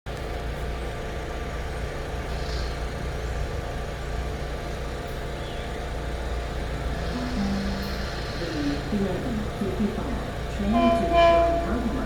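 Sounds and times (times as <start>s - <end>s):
train low rumble: 0.1s - 12.0s
faint constant hum: 0.7s - 12.0s.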